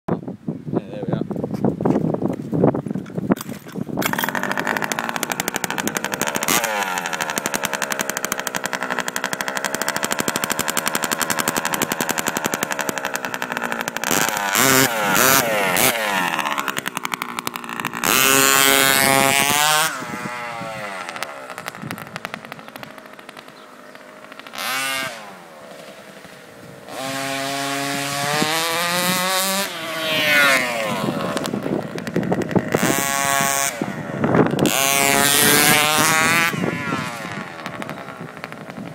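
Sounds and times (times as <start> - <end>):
small two-stroke engine revving: 3.4 - 38.9.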